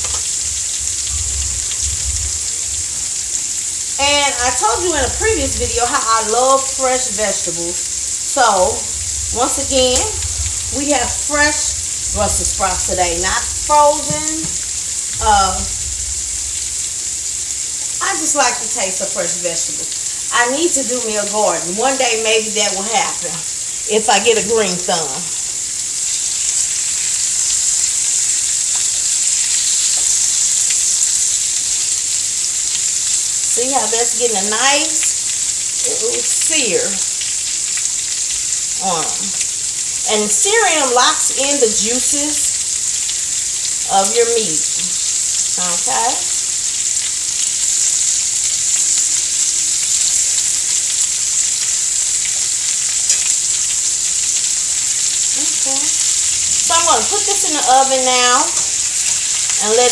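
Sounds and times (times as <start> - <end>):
meat sizzling in a skillet: 0.0 - 59.9.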